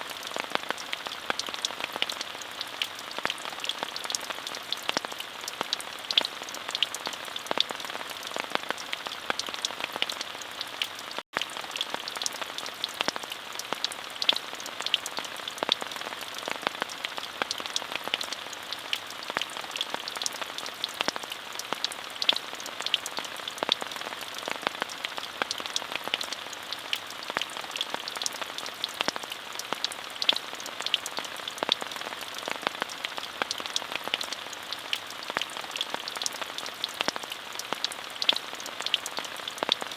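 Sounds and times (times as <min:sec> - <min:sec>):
raindrops ticking on a surface: 0:00.0 - 0:39.9
steady rainfall: 0:00.0 - 0:39.9.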